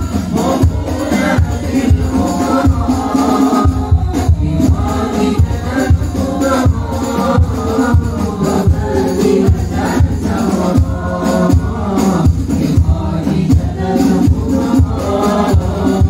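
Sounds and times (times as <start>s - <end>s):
hand drums beating: 0.0s - 16.0s
men singing devotional songs: 0.0s - 16.0s.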